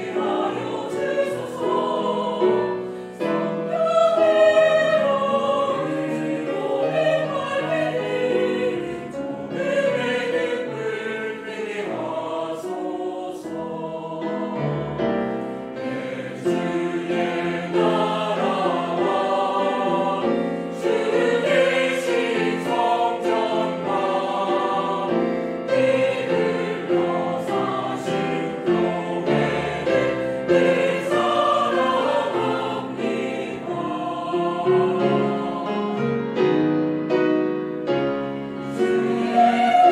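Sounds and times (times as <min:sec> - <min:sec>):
mixed choir singing: 0:00.0 - 0:36.8, 0:38.4 - 0:39.9.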